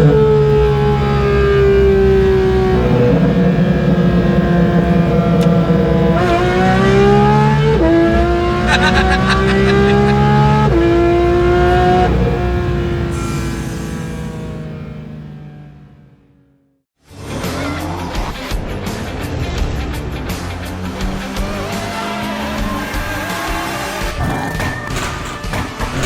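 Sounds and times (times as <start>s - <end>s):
car engine accelerating hard: 0.0s - 16.5s, 17.2s - 24.7s.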